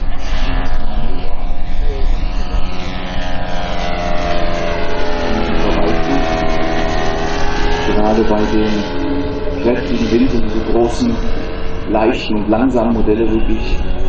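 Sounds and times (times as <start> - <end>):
model plane engine drone: 0.0 - 14.0.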